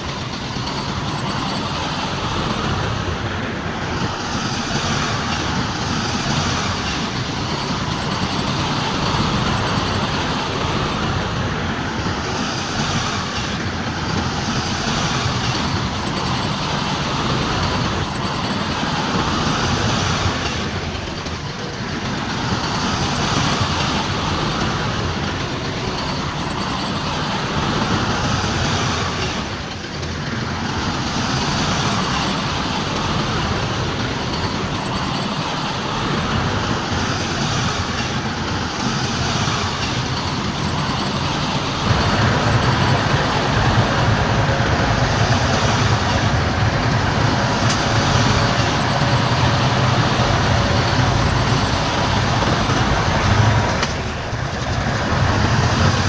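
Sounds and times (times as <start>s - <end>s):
diesel machinery engine rumble: 0.0s - 56.0s.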